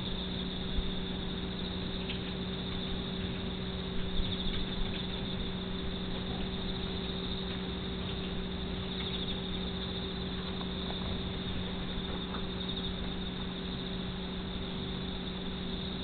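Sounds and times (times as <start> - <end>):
faint high pulsing chirr: 0.0 - 16.0
steady low hum: 0.0 - 16.0.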